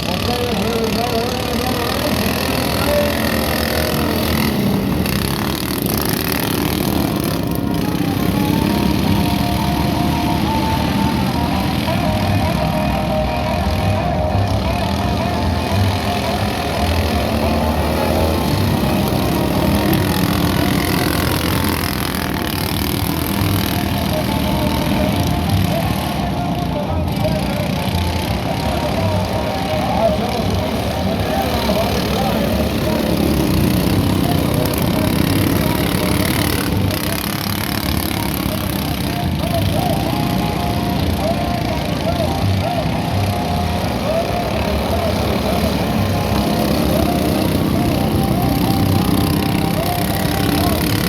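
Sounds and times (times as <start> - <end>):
racing lawn mower engines: 0.0 - 51.0.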